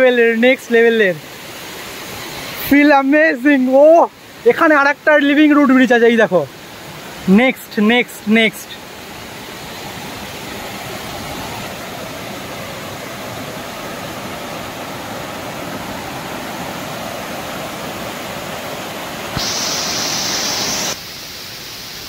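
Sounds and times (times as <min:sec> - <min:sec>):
stream rushing over rocks: 0:00.0 - 0:22.0
waterfall rushing: 0:00.0 - 0:22.0.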